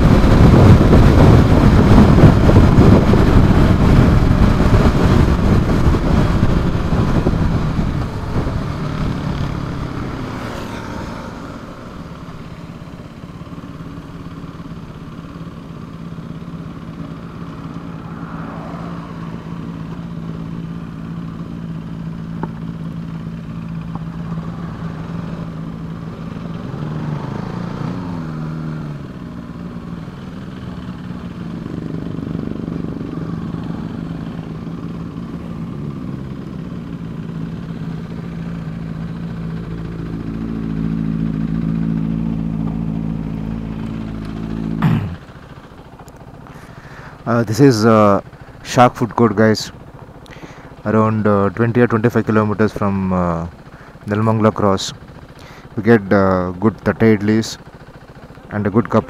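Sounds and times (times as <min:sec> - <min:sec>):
motorcycle engine humming: 0:00.0 - 0:59.0
wind and road noise: 0:00.0 - 0:59.0.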